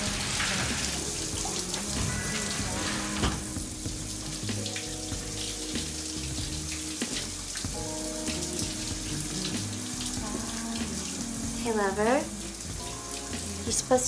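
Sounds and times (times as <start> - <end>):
shower spray hissing: 0.0 - 14.0
soft background music: 0.0 - 14.0.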